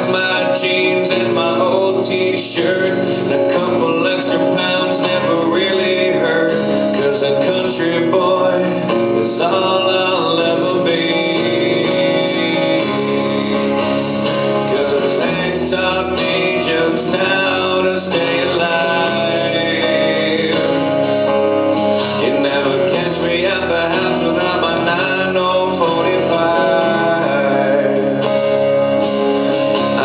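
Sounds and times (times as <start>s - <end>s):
country song: 0.0s - 30.0s
guitar playing: 0.0s - 30.0s
person singing: 0.0s - 30.0s.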